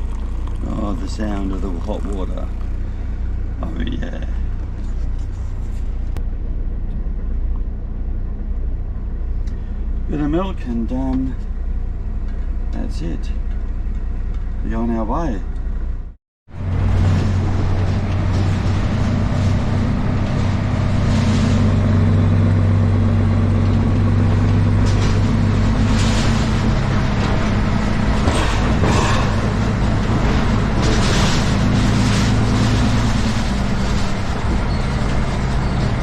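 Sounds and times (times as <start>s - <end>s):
road noise: 0.0s - 36.0s
truck diesel engine running: 0.0s - 36.0s.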